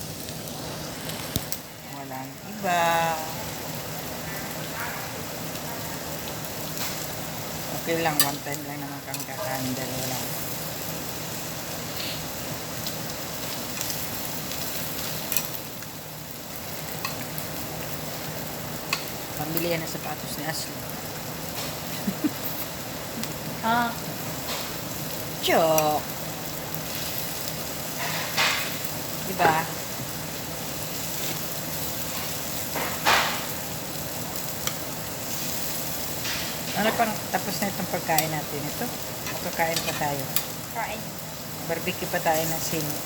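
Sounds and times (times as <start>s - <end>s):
meat sizzling on grill: 0.0s - 43.0s.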